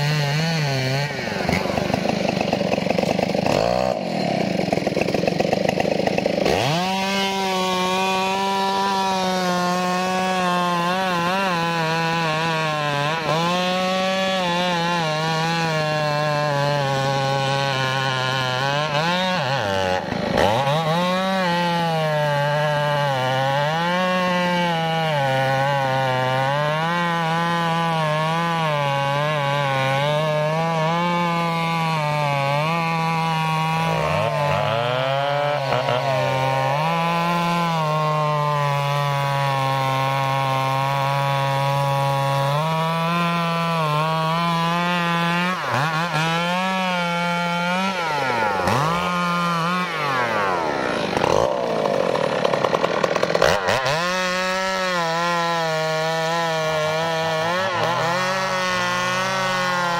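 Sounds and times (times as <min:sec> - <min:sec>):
chainsaw cutting log: 0:00.0 - 0:59.9
second chainsaw: 0:00.0 - 0:59.9.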